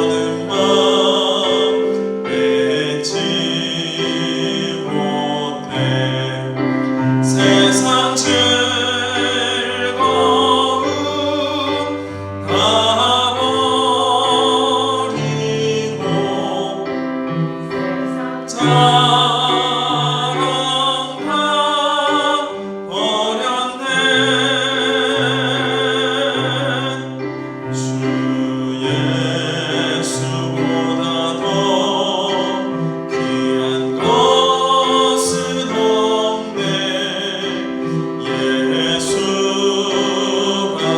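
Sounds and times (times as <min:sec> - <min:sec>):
person singing a hymn: 0:00.0 - 0:40.9
sustained keyboard accompaniment: 0:00.0 - 0:40.9.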